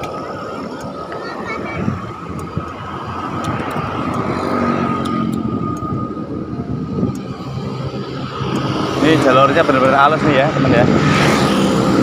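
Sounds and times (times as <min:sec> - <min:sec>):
road traffic: 0:00.0 - 0:12.0
vehicle engine: 0:00.0 - 0:12.0
wind on microphone: 0:01.5 - 0:12.0.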